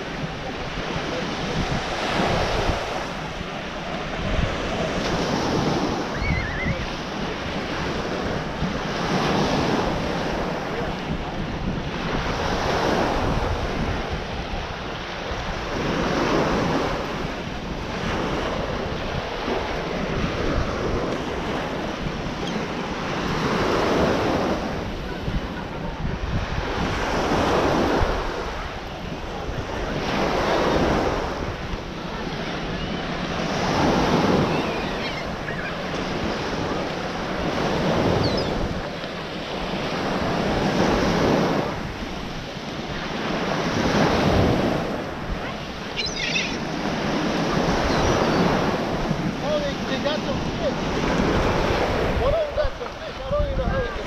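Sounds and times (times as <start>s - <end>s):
small waves breaking on sand: 0.0s - 54.0s
wind buffeting microphone: 0.0s - 54.0s.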